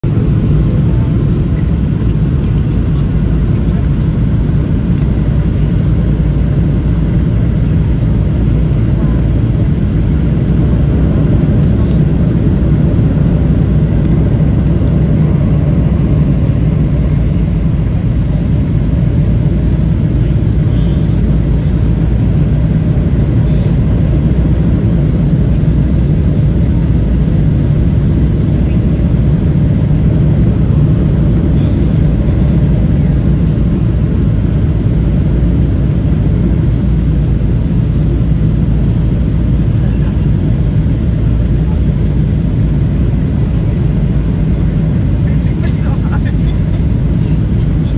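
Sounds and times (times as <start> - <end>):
jet engines rumbling: 0.0 - 47.9
rushing airflow: 0.0 - 47.9.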